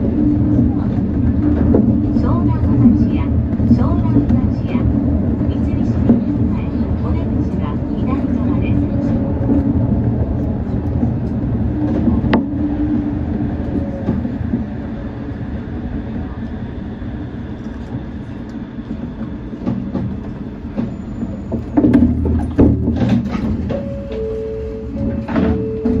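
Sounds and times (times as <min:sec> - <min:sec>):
monorail car rumbling to a stop: 0:00.0 - 0:26.0.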